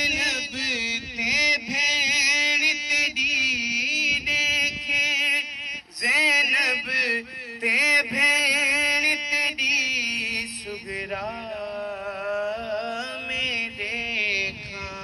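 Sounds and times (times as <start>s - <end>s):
man singing a lament: 0.0s - 15.0s.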